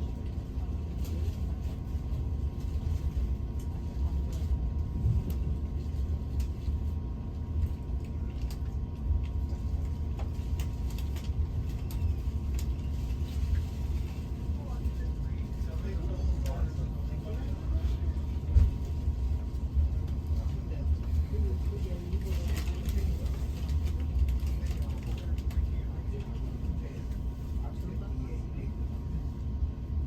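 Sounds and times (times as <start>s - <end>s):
train running gear rumble: 0.0s - 30.0s.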